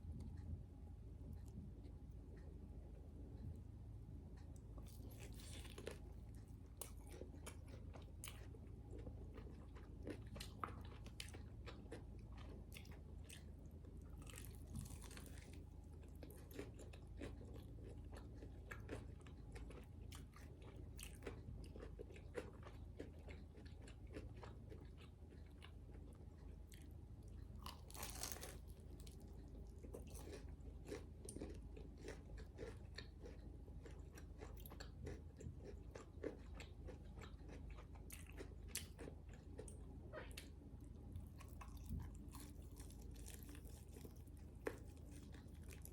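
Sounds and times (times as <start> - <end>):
person chewing crunchy food: 4.4 - 45.9.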